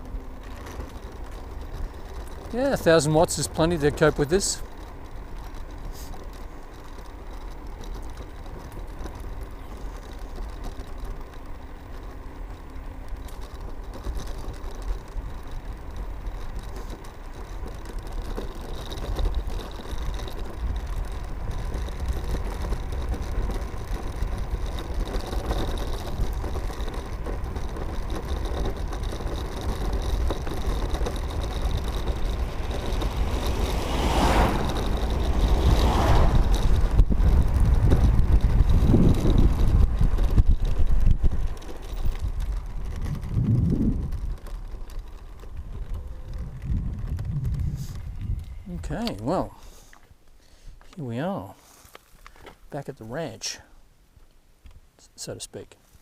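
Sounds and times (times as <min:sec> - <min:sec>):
wind and road rumble: 0:00.0 - 0:56.0.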